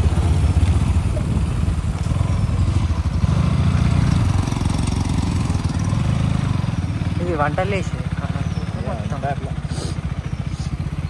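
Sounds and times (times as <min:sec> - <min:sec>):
motorcycle engine rumble: 0:00.0 - 0:11.0.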